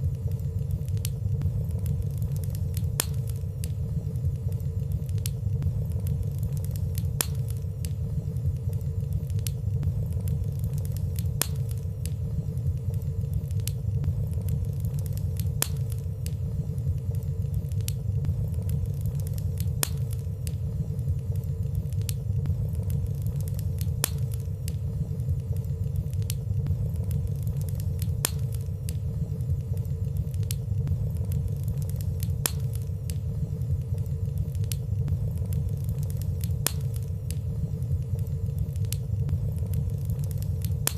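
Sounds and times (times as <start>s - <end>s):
faint steady hum: 0.0s - 40.9s
fireplace flames rumbling: 0.0s - 40.9s
light clicks of fire: 0.0s - 40.9s.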